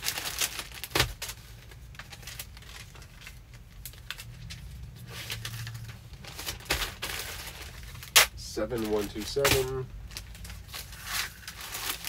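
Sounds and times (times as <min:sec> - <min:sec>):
paper rustling and clicks while packing: 0:00.0 - 0:12.0.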